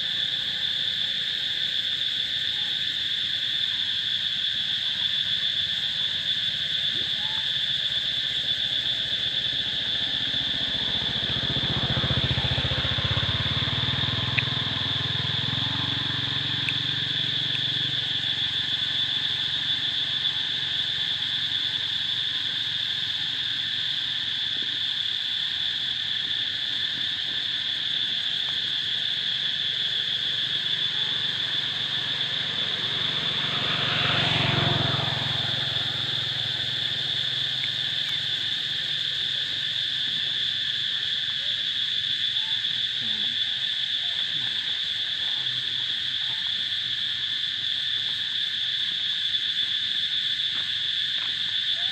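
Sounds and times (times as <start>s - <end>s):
insect chorus: 0.0s - 51.9s.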